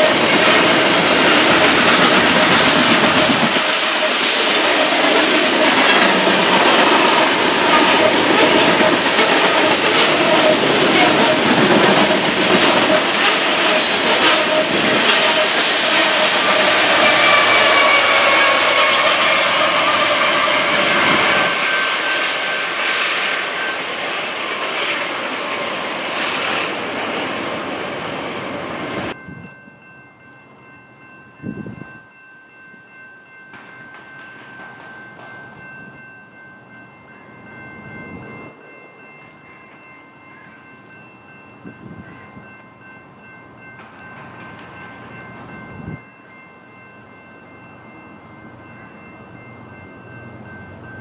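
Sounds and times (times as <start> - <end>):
high multi-note train tone: 0.0 - 51.0.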